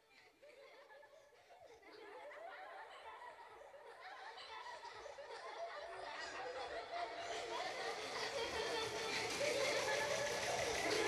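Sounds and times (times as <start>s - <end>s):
crowd chatter and laughter: 0.0s - 11.0s.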